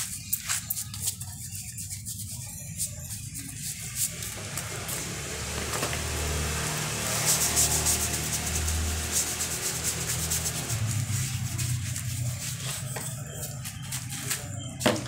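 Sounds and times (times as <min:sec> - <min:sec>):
soapy scrubbing by hand: 0:00.0 - 0:05.3, 0:06.0 - 0:14.3.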